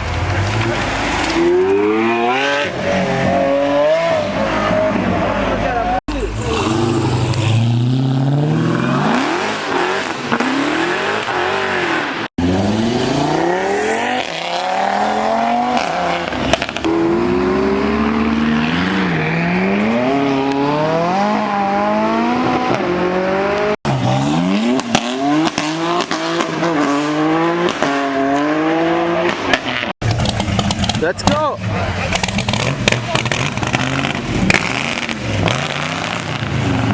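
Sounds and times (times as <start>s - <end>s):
car engines revving: 0.0s - 36.9s.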